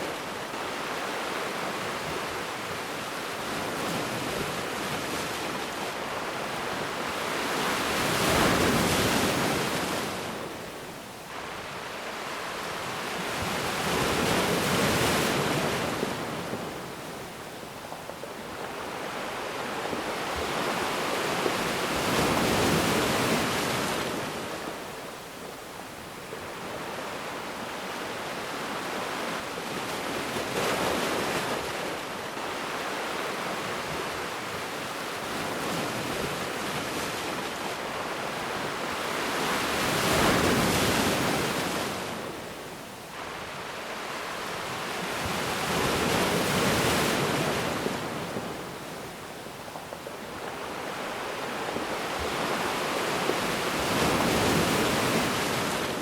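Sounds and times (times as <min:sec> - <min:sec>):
ocean waves surging: 0:00.0 - 0:56.0.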